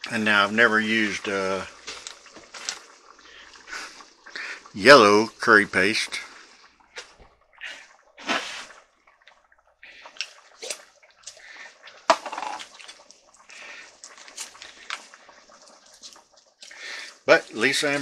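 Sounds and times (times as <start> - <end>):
curry boiling and popping: 0.0 - 18.0.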